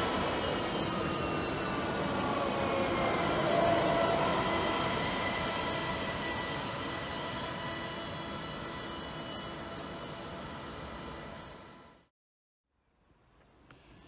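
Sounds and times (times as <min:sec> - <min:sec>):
electric train whine: 0:00.0 - 0:12.1.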